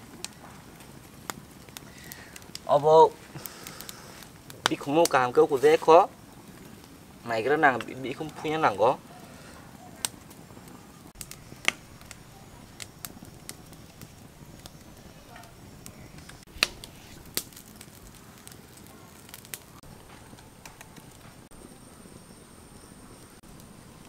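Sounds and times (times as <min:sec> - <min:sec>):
sharp pops from fire: 0:00.0 - 0:24.0
wood fire crackling: 0:00.0 - 0:24.0.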